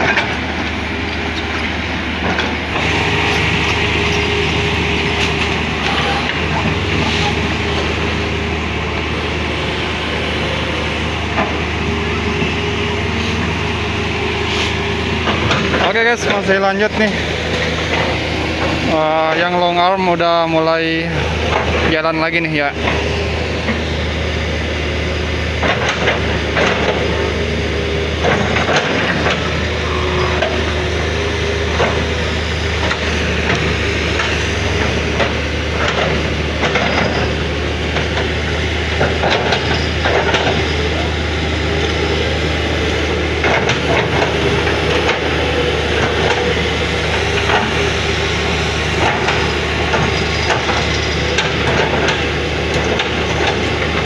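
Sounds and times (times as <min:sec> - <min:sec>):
excavator bucket clanking: 0:00.0 - 0:09.7, 0:10.6 - 0:13.6, 0:14.6 - 0:19.6, 0:25.5 - 0:27.5, 0:28.1 - 0:54.0
diesel engine running: 0:00.0 - 0:54.0.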